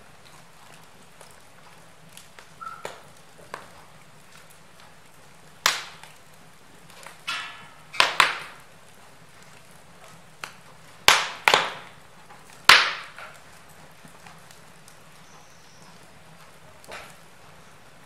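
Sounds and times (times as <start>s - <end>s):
wood fire popping and snapping: 0.0s - 18.0s.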